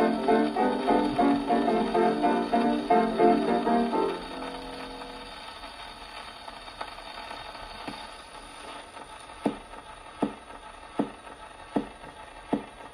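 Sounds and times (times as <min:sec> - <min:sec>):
record surface hiss: 0:00.0 - 0:12.9.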